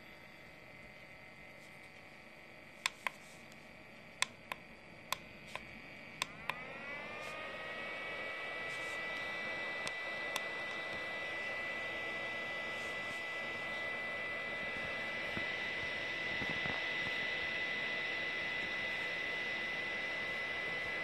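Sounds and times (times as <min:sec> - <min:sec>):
cooling fan whining: 0:00.0 - 0:21.0.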